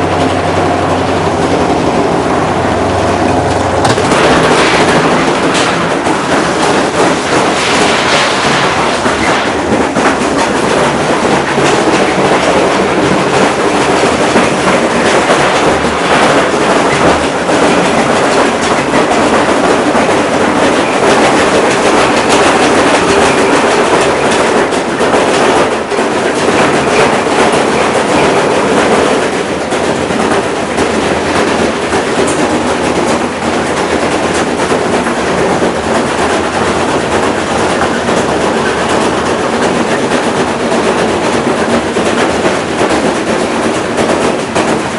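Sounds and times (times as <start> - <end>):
washing machine running: 0.0 - 44.9.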